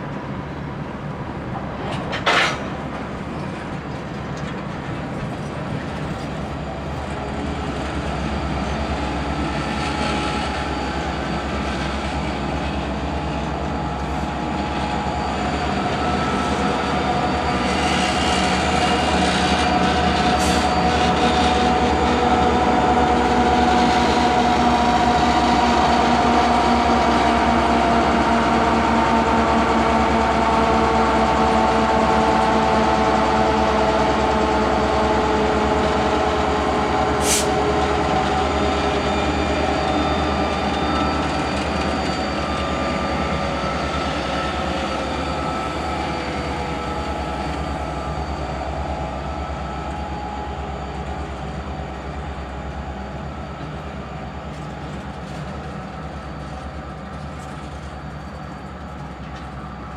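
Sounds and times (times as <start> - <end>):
diesel locomotive engines droning: 0.0 - 59.9.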